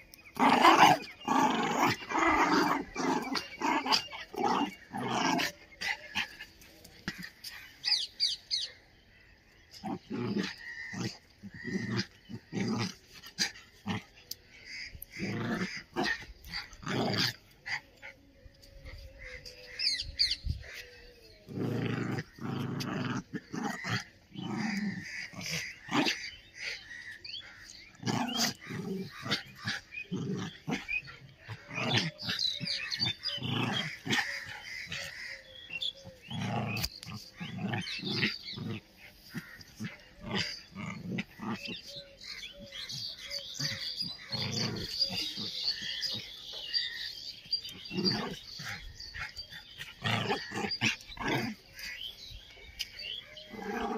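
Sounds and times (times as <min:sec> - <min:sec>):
dogs growling and snarling: 0:00.0 - 0:53.9.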